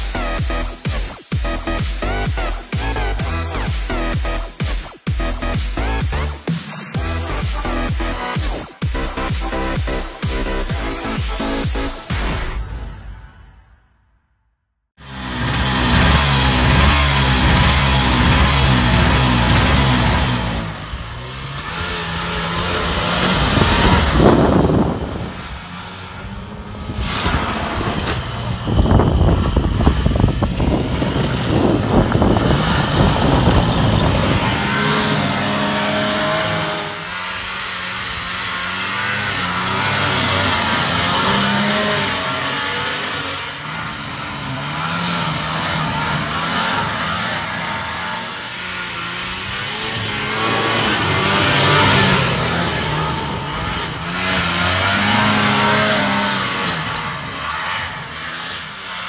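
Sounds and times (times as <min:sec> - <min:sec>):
snowmobile engine revving: 0:00.0 - 0:12.8, 0:15.0 - 0:59.0.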